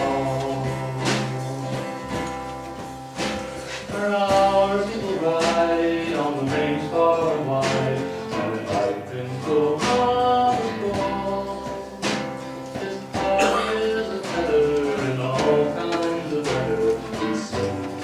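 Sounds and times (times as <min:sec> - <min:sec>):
acoustic country band playing: 0:00.0 - 0:18.0.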